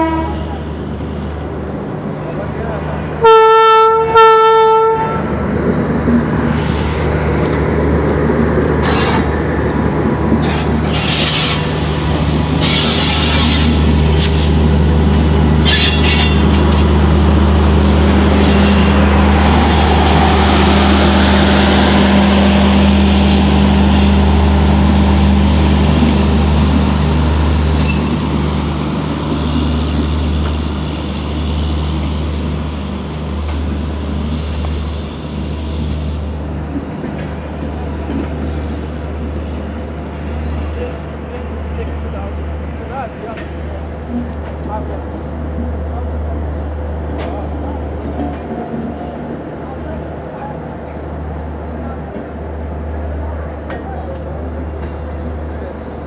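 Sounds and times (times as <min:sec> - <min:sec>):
passenger train rolling past: 0:00.0 - 0:56.0.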